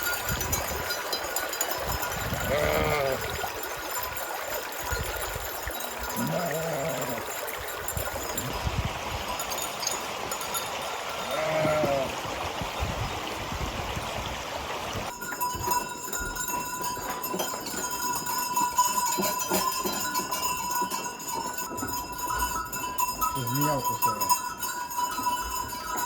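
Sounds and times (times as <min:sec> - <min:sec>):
sheep bells clinking: 0:00.0 - 0:12.3, 0:15.1 - 0:26.0
rushing water: 0:00.0 - 0:26.0.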